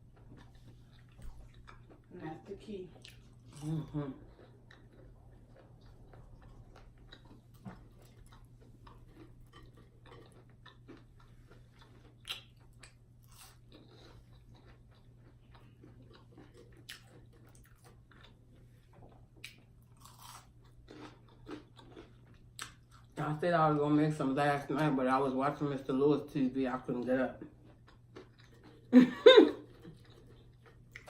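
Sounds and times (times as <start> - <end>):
chewing fried food: 0.0 - 23.4, 24.7 - 31.0.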